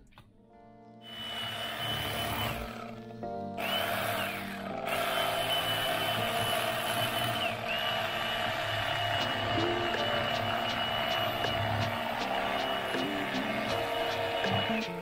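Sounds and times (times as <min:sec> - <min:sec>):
electric knife motor whine: 0:01.0 - 0:15.0.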